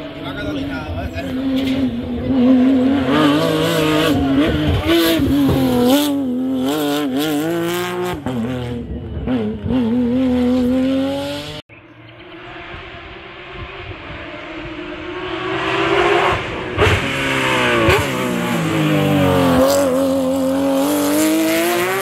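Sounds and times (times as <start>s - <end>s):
rally car engine revving: 0.0s - 11.6s, 12.2s - 22.0s.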